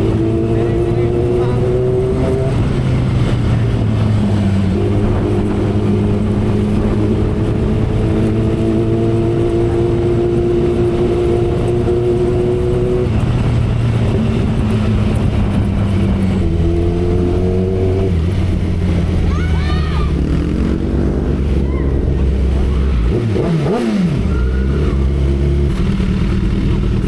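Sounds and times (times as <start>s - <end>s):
motorcycle engine running: 0.0s - 27.0s
wind noise: 0.0s - 27.0s.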